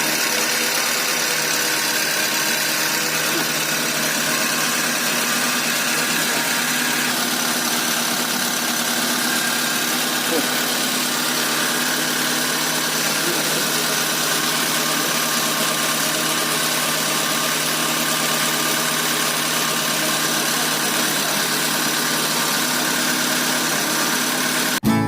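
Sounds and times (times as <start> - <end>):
car engine running steadily: 0.0 - 24.9.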